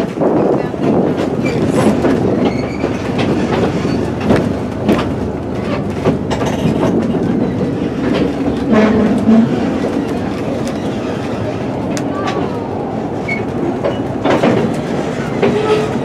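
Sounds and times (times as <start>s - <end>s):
train wheels rumbling on rails: 0.0s - 16.0s
wheels clicking over rail joints: 0.0s - 16.0s.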